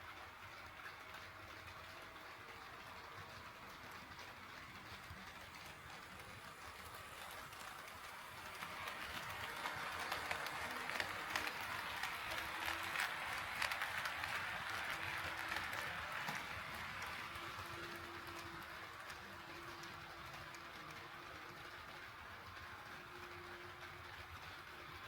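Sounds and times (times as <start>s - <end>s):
model train wheels rattling on track: 0.0s - 25.0s.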